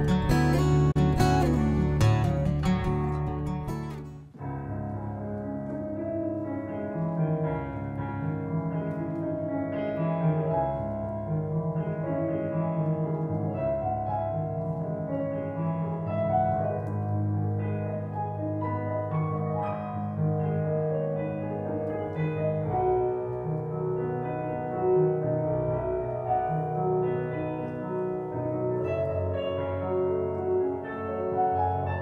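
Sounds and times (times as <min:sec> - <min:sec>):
solo piano music: 0:00.0 - 0:32.0.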